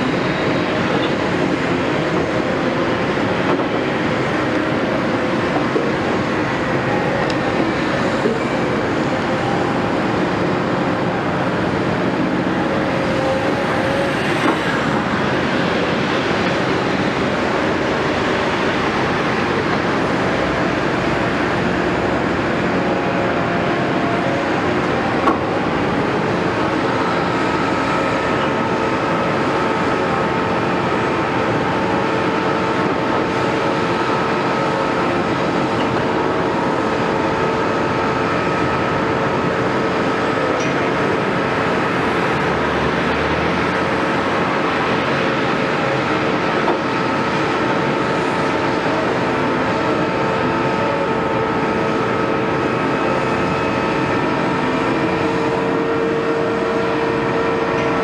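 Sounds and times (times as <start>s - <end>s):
excavator engine running: 0.0s - 58.0s
steady whine: 0.0s - 58.0s.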